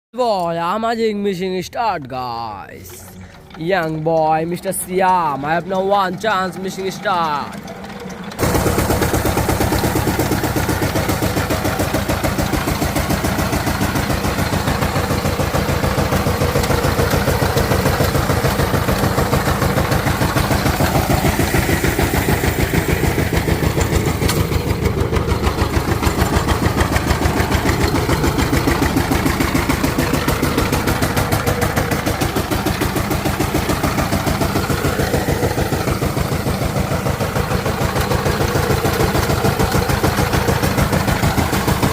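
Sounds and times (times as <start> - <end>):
diesel engine running: 0.3 - 41.9.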